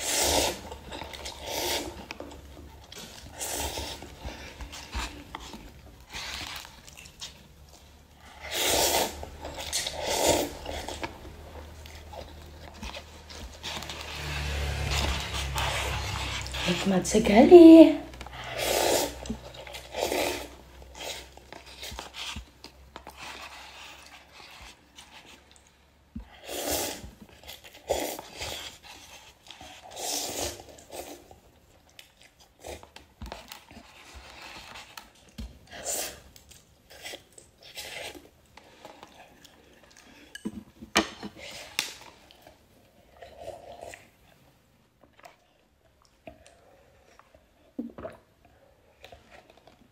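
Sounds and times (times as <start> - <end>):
chewing and slurping noodles: 0.0 - 16.9, 18.1 - 49.9.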